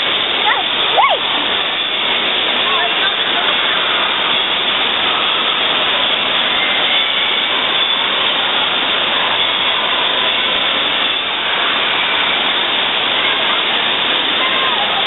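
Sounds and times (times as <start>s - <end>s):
water rushing down slide: 0.0s - 15.0s.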